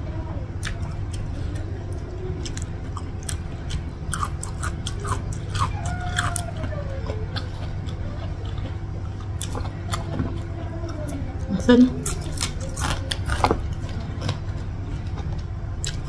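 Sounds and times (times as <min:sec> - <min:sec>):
crunchy chewing of vegetables: 0:00.5 - 0:16.0.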